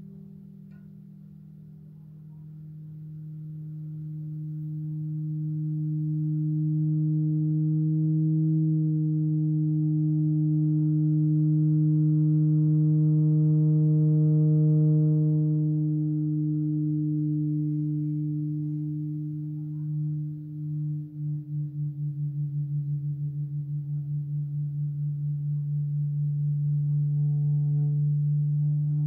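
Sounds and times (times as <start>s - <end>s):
string feedback drone: 0.0s - 29.0s.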